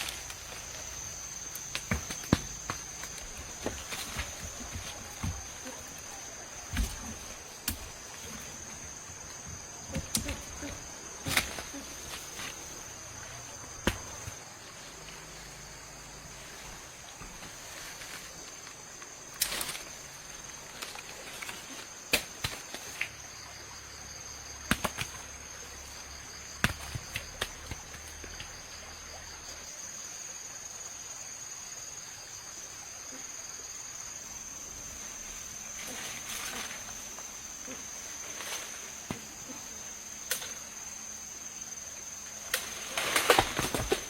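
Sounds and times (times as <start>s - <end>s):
crickets droning: 0.0s - 44.0s.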